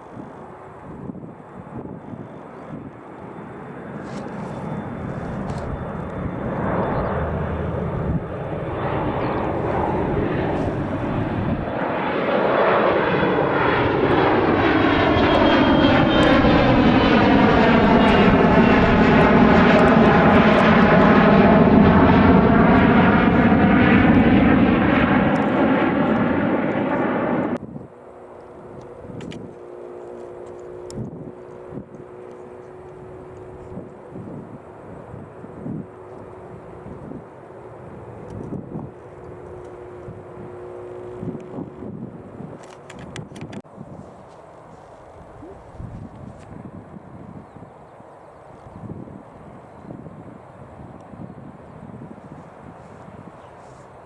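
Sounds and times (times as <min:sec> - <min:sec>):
jet aircraft engines passing: 0:00.0 - 0:54.0.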